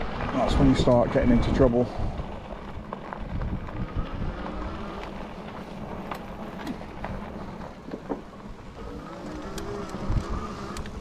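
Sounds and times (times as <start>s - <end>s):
wind buffeting microphone: 0.0s - 7.7s, 8.4s - 11.0s
grit clicking under tyres: 0.0s - 11.0s
low motor hum: 0.0s - 11.0s
tyres rolling on gravel: 0.0s - 11.0s.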